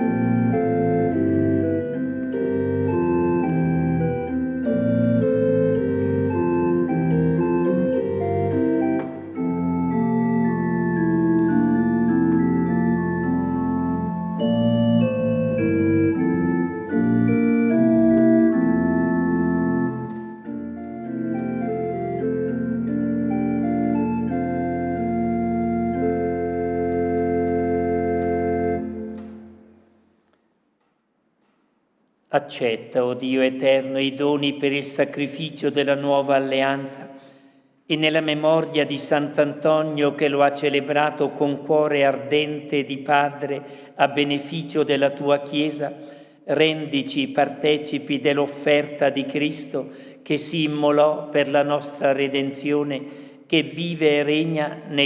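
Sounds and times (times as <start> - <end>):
church organ chords: 0.0 - 30.1, 32.4 - 55.0.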